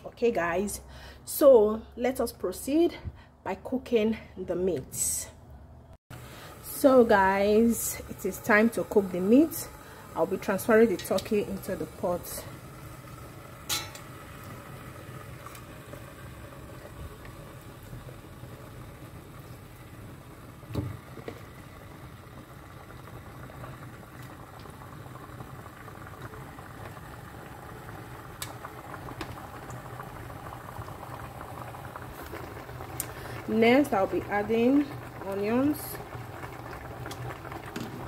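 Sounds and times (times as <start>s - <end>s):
pot simmering with bubbling hiss: 6.1s - 38.0s.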